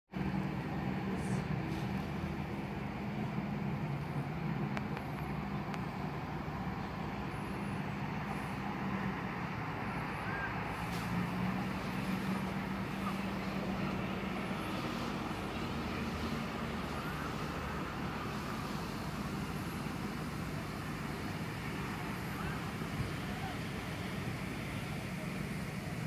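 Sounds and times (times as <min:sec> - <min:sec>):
distant road traffic: 0:00.1 - 0:26.0.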